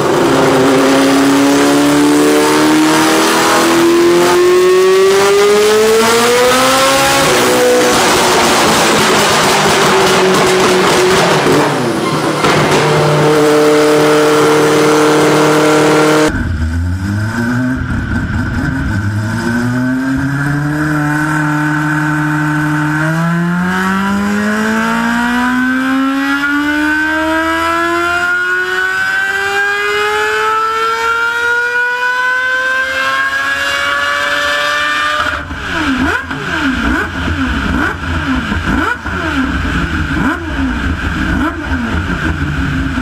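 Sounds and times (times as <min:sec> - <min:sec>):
rotary engine rising in pitch: 0:00.0 - 0:39.5
car engine at high revs: 0:00.0 - 0:43.0.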